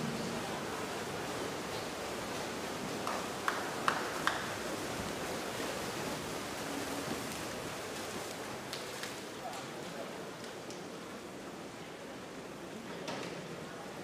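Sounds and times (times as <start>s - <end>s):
swimming pool background noise: 0.0s - 14.0s.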